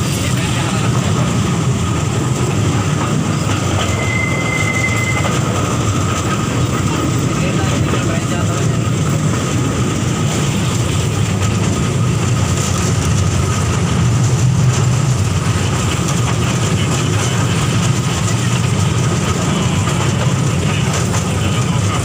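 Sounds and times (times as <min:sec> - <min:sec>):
toy train rumbling: 0:00.0 - 0:22.0.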